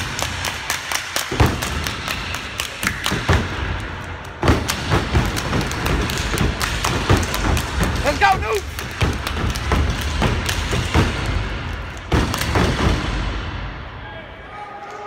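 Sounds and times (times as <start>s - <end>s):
people clapping: 0.0s - 13.1s.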